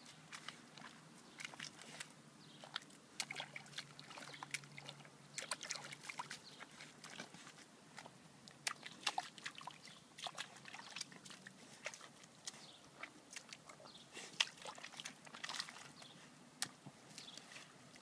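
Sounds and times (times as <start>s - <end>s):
dog splashing in muddy puddle: 0.0s - 18.0s.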